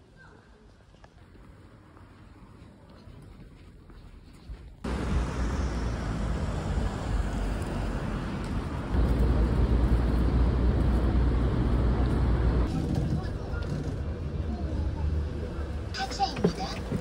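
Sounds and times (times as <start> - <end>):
street traffic rumble: 0.9 - 17.0.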